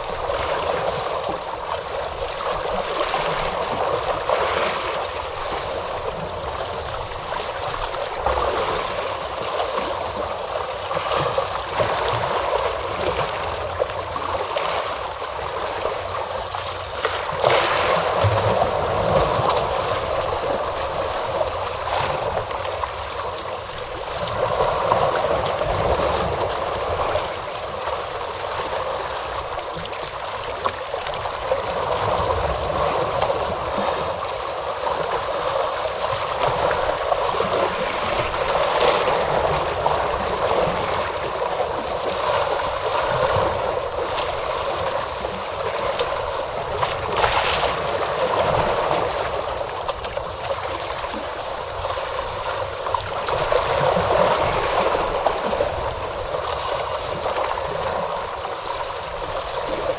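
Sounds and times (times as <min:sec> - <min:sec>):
ocean waves washing ashore: 0:00.0 - 0:59.9
wave splash: 0:00.0 - 0:59.9.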